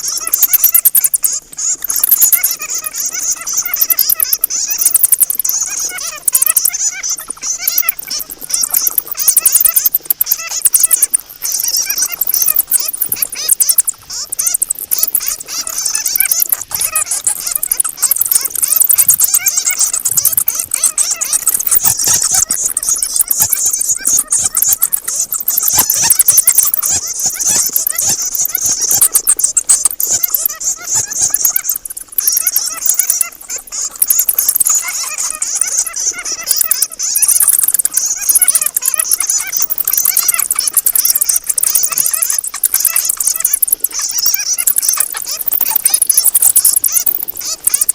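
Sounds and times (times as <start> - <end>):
bats squeaking and chattering: 0.0 - 47.9.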